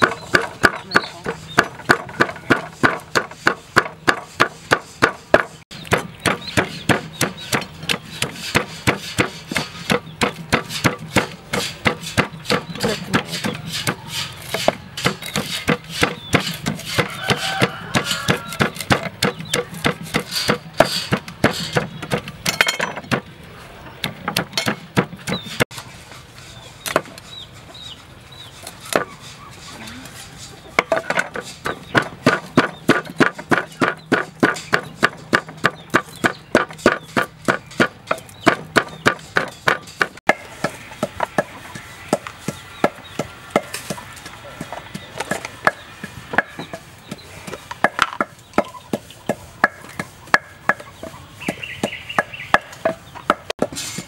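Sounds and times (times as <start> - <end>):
wooden pestle pounding in mortar: 0.0 - 23.3, 24.0 - 25.6, 30.7 - 53.8.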